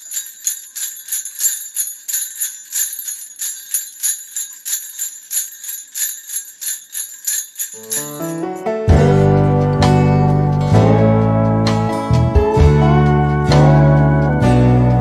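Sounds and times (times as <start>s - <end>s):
jingle bells shaken: 0.0s - 15.0s.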